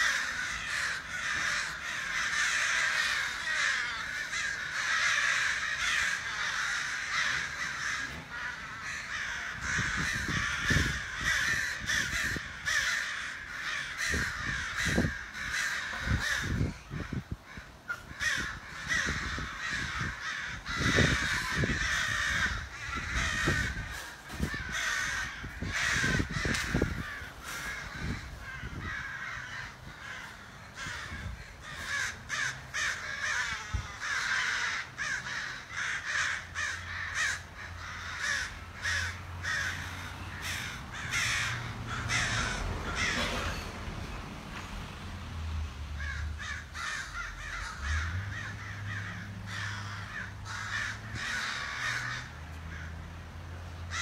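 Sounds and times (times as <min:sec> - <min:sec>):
flock of birds calling: 0:00.0 - 0:44.1, 0:46.0 - 0:53.0, 0:53.7 - 0:54.0.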